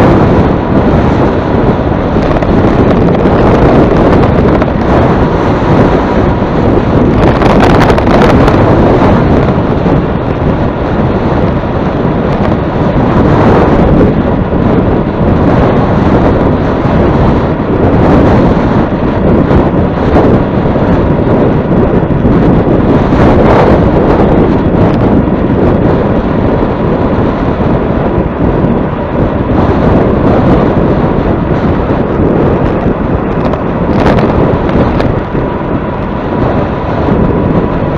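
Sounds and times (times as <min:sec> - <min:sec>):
strong wind buffeting microphone: 0:00.0 - 0:37.9.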